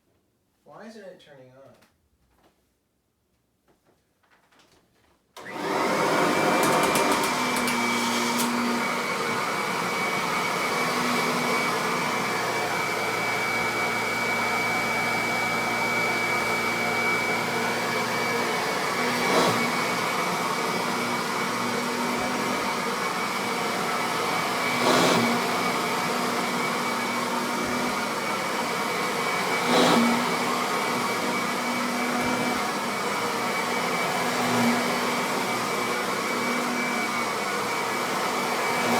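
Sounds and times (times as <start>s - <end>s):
vacuum cleaner whining: 5.4s - 38.9s.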